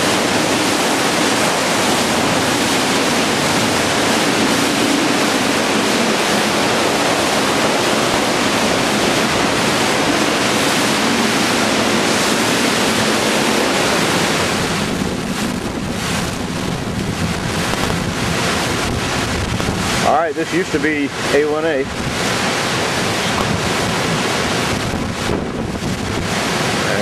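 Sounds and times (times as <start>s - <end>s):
strong wind rushing through trees: 0.0s - 27.0s
wind gusts buffeting microphone: 0.0s - 27.0s.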